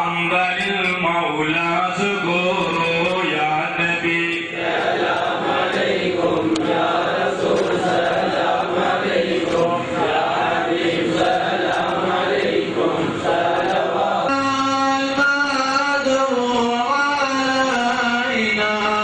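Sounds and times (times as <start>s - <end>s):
group chanting devotional song: 0.0s - 19.0s.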